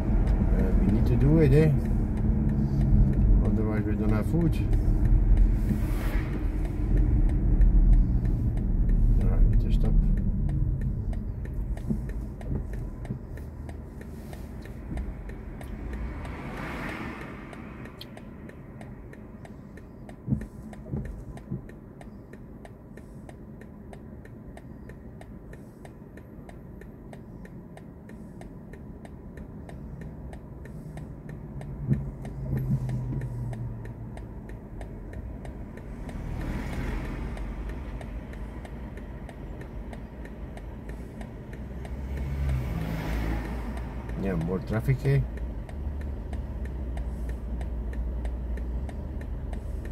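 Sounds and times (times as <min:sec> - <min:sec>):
low rumble of passing traffic: 0:00.0 - 0:49.9
turn signal ticking: 0:00.0 - 0:49.9.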